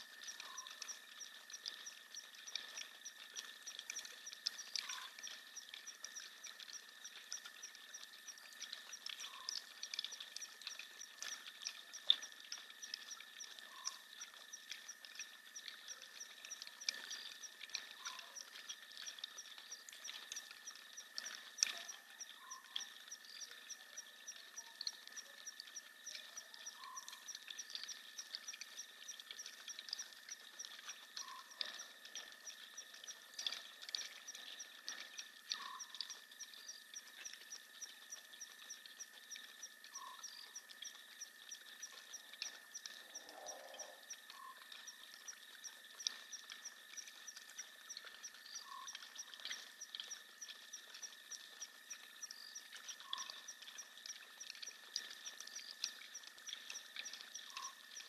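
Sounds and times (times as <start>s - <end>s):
frog calling: 0.0s - 3.2s, 3.9s - 11.4s, 12.2s - 58.0s
insects trilling: 0.0s - 58.0s
rapid chirping ticks: 0.0s - 58.0s.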